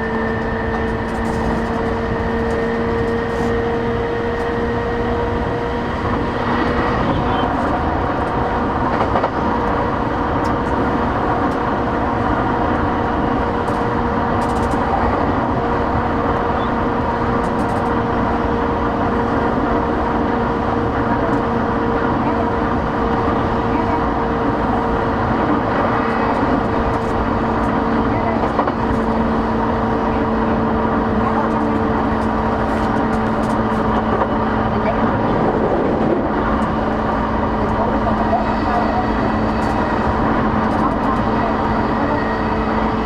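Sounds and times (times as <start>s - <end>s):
traction motor whine: 0.0s - 43.0s
train wheels rumbling on rail: 0.0s - 43.0s.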